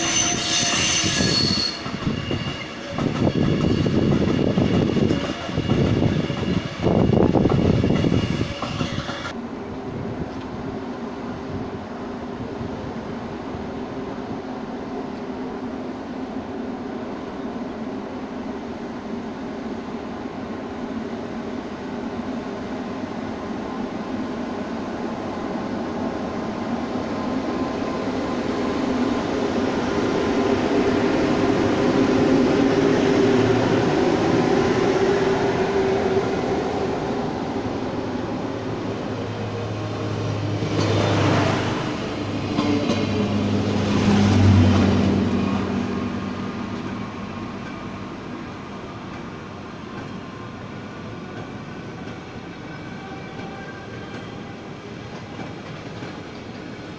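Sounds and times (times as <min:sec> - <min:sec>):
freight train passing: 0:00.0 - 0:56.9.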